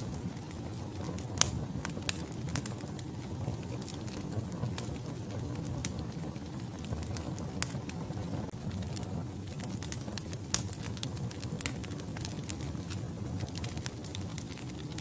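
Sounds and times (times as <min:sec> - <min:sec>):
flames rumbling: 0:00.0 - 0:15.0
logs crackling and popping: 0:00.0 - 0:15.0.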